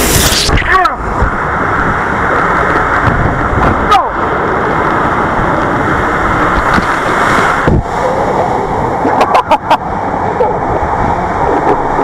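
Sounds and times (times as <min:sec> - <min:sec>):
rush of water and wind: 0:00.0 - 0:12.0.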